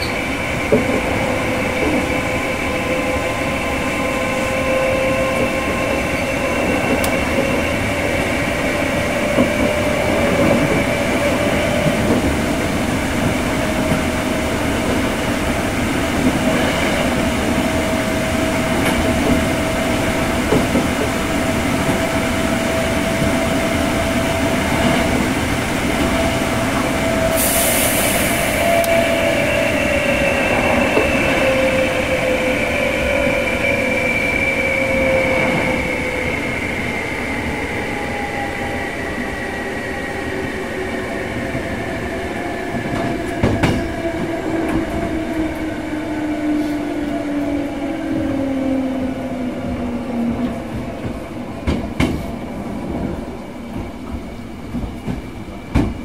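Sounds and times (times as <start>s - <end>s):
train wheels rolling on rail: 0.0s - 56.0s.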